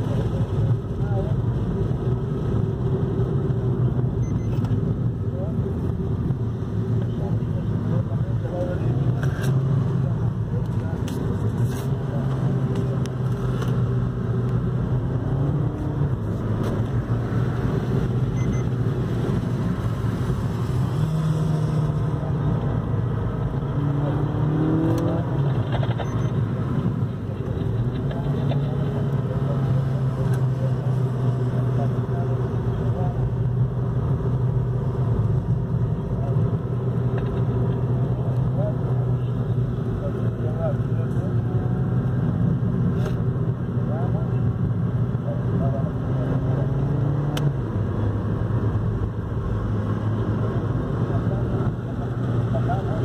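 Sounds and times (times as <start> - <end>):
car engine from inside cabin: 0.0 - 53.0
road and tyre noise: 0.0 - 53.0.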